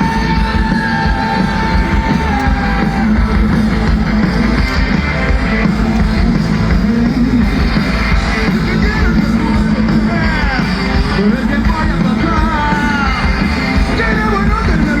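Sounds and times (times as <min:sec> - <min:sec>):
electric guitar: 0:00.0 - 0:15.0
rock band playing live: 0:00.0 - 0:15.0.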